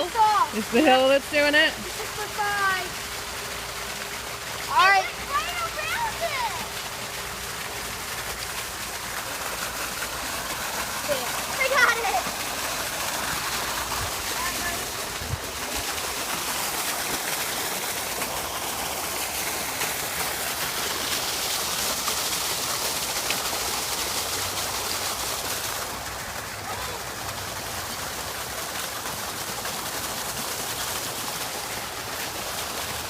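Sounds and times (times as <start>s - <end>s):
waterfall rushing and splashing: 0.0s - 33.0s.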